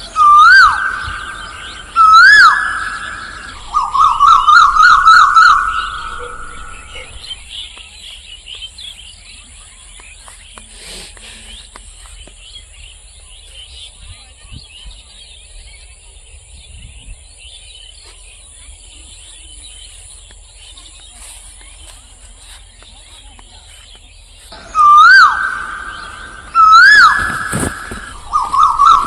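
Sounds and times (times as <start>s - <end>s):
many birds chirping: 0.0s - 29.0s.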